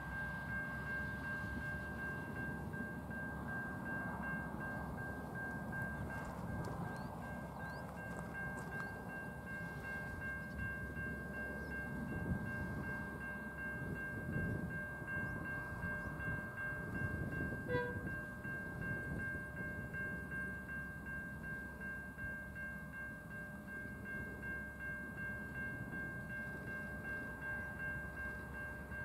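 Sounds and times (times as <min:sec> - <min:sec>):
freight train rumbling: 0:00.0 - 0:29.0.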